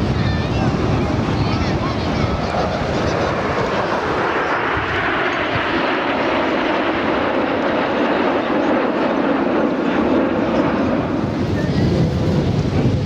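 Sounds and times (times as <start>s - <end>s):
jet aircraft rushing roar: 0.0s - 13.0s.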